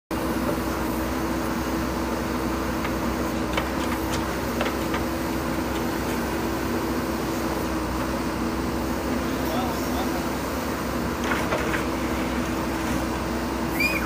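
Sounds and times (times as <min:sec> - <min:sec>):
diesel engine under load: 0:00.1 - 0:14.0.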